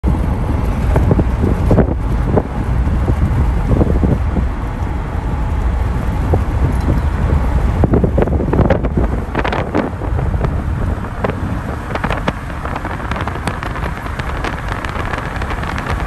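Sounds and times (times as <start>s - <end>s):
car road noise: 0.0s - 16.0s
wind buffeting microphone: 0.0s - 16.0s.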